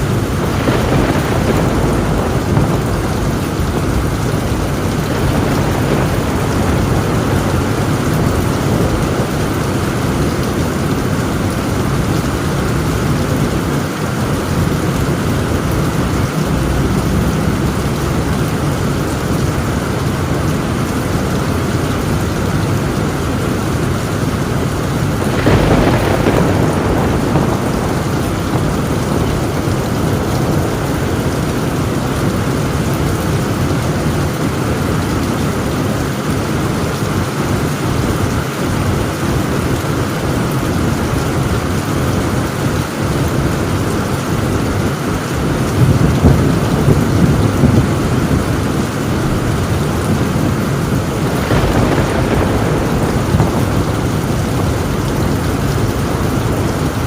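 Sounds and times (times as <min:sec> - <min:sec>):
loud thunder burst: 0:00.0 - 0:41.8, 0:43.3 - 0:57.0
heavy rain on a tin roof: 0:00.0 - 0:57.0
low rumbling thunder: 0:00.0 - 0:57.0.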